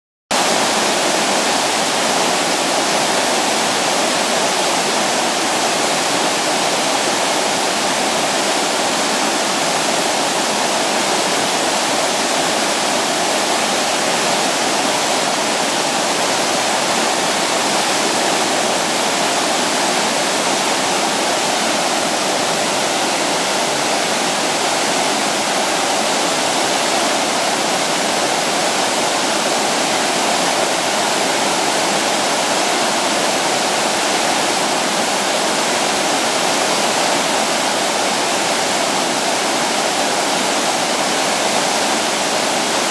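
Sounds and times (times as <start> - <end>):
river rushing over rocks: 0.3 - 42.9.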